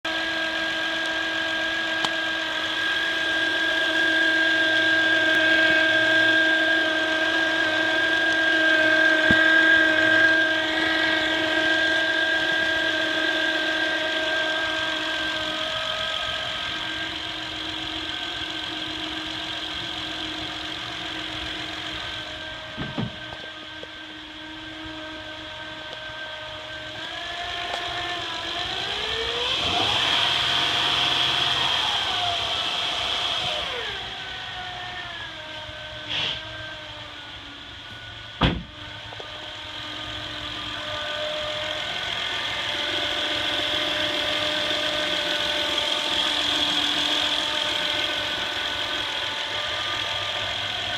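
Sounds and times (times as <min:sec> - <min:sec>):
alternator whining: 0:00.0 - 0:50.9.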